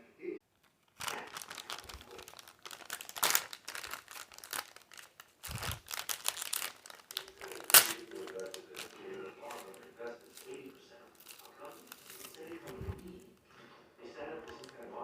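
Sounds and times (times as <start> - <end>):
snack packaging crinkling: 0.5 - 13.4, 14.2 - 15.0.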